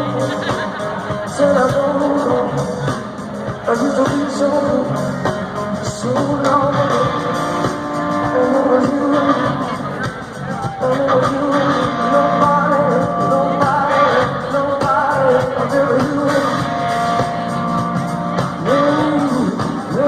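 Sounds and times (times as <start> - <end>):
drums: 0.0 - 20.0
electric guitar: 0.0 - 20.0
live hard rock band: 0.0 - 20.0
person singing long notes: 1.1 - 17.6, 18.4 - 20.0.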